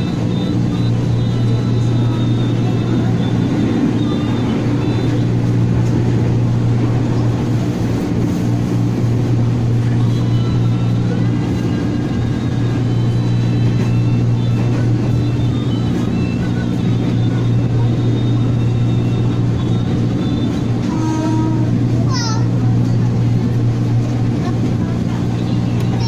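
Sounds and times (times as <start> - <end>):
train running hum: 0.0 - 26.0.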